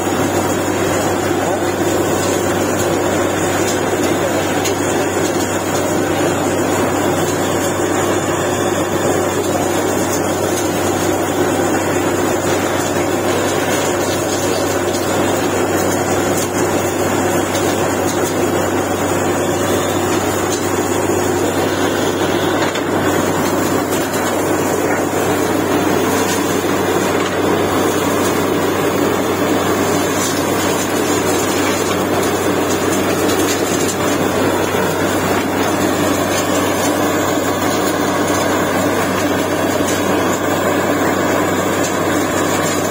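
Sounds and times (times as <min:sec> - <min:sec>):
drilling rig mechanical drone: 0:00.0 - 0:42.9.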